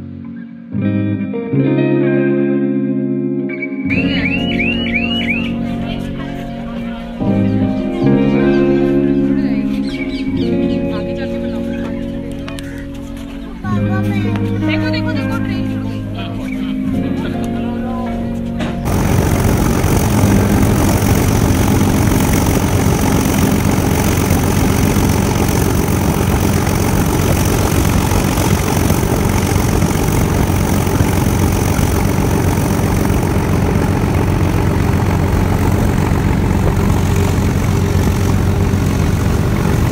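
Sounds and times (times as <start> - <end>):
locomotive engine drone: 3.9 - 16.4, 18.5 - 39.9.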